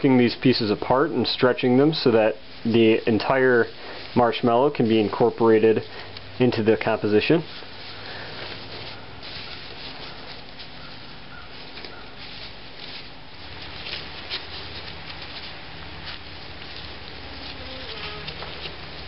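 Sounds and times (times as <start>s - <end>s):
hands kneading sticky lump: 0.0s - 19.0s
low steady hum: 0.0s - 19.0s.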